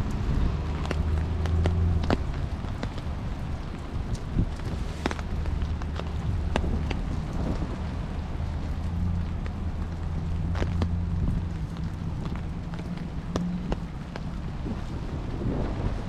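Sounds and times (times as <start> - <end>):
steady rain: 0.0 - 16.0
taps of heavy raindrops: 0.0 - 16.0.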